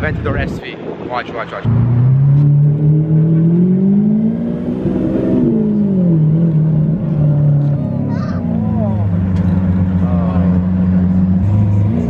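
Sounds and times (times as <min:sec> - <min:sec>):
car engine revving: 0:01.5 - 0:12.0.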